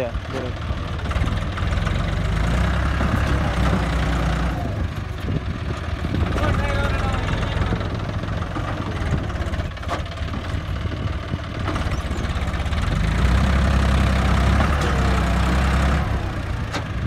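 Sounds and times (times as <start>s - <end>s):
tractor diesel engine throbbing: 0.0s - 17.0s.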